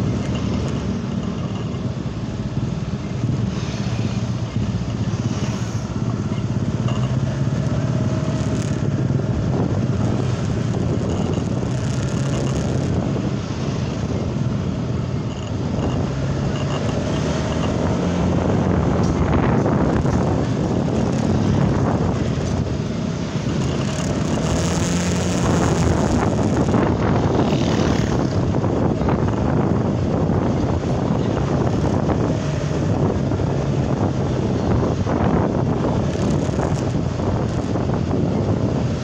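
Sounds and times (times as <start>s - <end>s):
vehicle engine running: 0.0s - 39.0s
wind on microphone: 0.0s - 39.0s.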